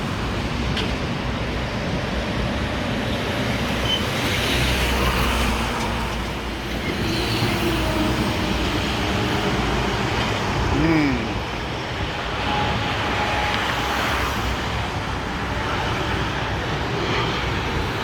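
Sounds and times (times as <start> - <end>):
traffic rumble and hiss: 0.0 - 18.0.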